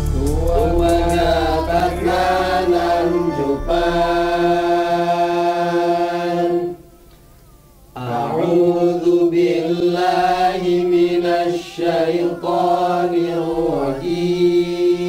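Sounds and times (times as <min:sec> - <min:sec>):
man chanting recitation: 0:00.0 - 0:06.9, 0:08.0 - 0:15.0.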